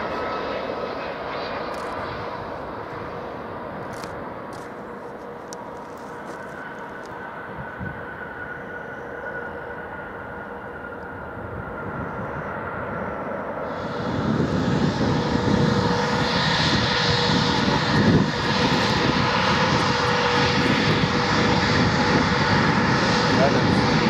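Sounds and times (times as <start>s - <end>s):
distant airliner engines: 0.0s - 24.0s
jet engines roaring and whining: 0.0s - 24.0s.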